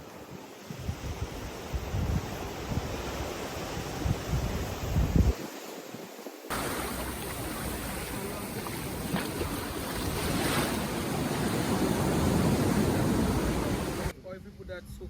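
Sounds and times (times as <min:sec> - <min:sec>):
surf washing onto beach: 0:00.0 - 0:14.1
wind buffeting microphone: 0:00.3 - 0:05.5, 0:06.5 - 0:14.1.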